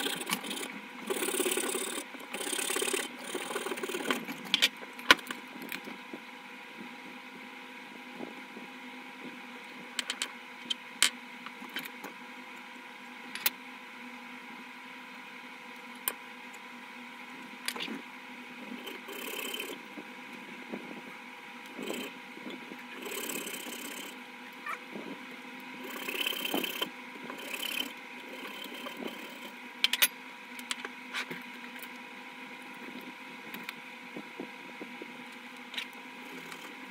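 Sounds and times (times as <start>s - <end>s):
steady background hum: 0.0s - 36.9s.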